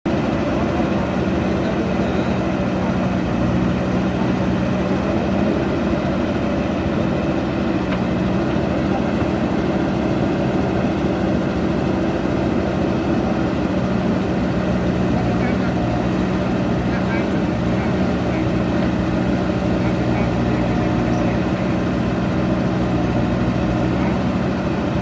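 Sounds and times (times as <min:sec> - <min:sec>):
diesel engine running steadily: 0:00.0 - 0:25.0.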